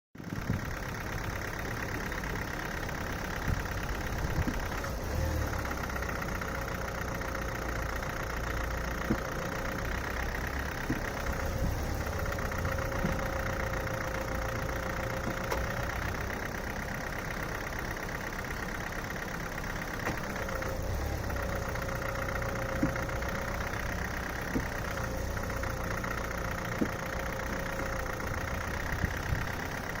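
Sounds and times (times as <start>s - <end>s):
car engine running: 0.2s - 30.0s
engine knock ticks: 0.2s - 30.0s.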